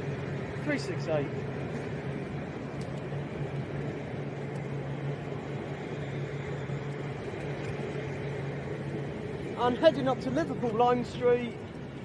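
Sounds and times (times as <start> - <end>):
low electric hum: 0.0 - 12.0
train rolling rumble: 0.0 - 12.0.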